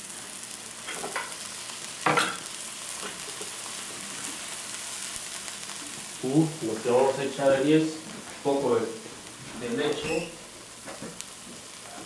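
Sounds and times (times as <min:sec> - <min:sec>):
risotto sizzling in a pan: 0:00.0 - 0:12.0.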